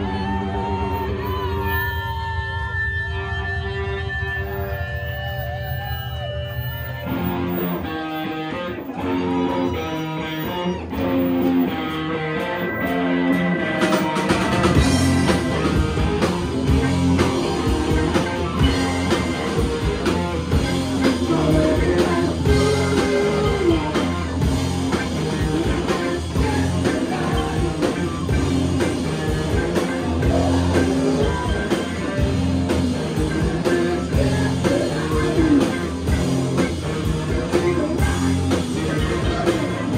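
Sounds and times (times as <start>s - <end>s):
live rock and roll band: 0.0s - 39.9s.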